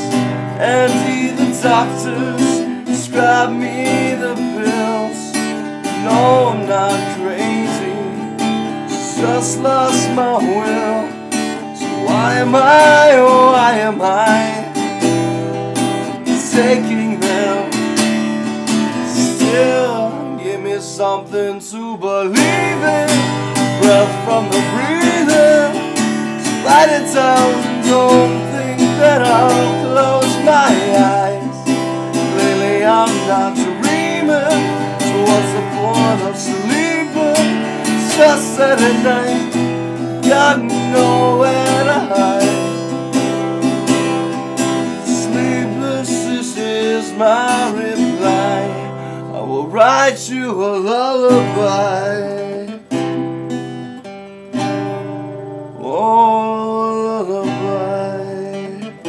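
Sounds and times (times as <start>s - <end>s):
man singing: 0.0s - 53.0s, 55.7s - 59.0s
acoustic guitar strumming: 0.0s - 59.0s.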